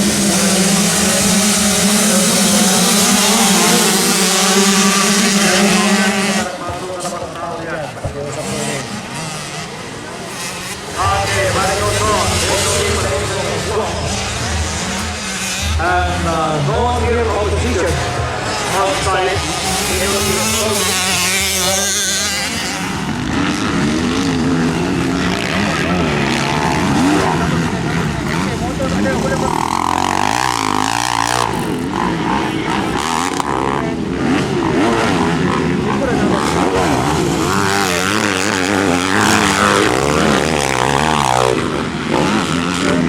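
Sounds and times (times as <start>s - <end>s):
motocross bike engine revving: 0.0s - 43.0s.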